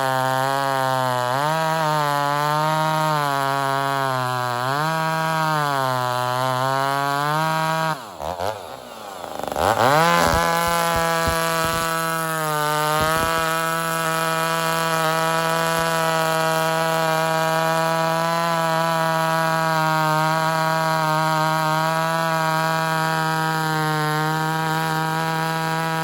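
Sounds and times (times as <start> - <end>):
chainsaw running at full throttle: 0.0 - 26.0.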